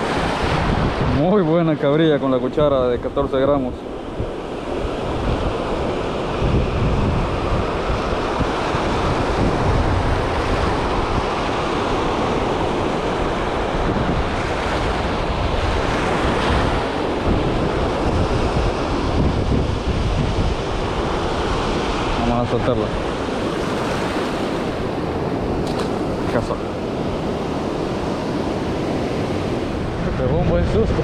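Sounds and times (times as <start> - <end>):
surf washing over rocks: 0.0 - 31.0
wind rumbling on microphone: 0.0 - 31.0.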